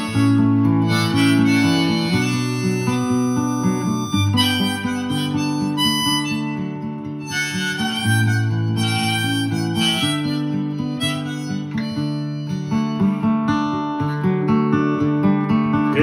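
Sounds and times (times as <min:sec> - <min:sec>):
harmonica playing: 0:00.0 - 0:14.2
strummed acoustic guitar: 0:00.0 - 0:16.0.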